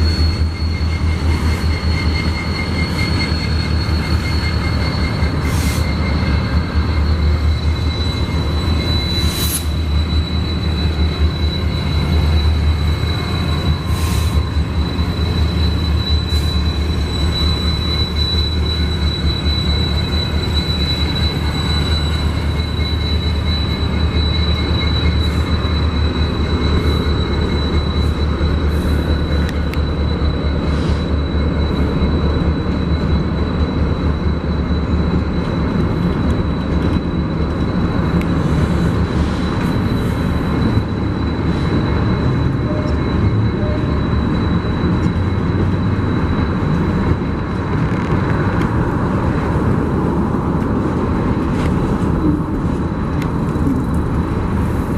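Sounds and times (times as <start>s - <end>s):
freight train rumbling past: 0.0s - 54.9s
high-pitched wheel squeal: 0.0s - 54.9s.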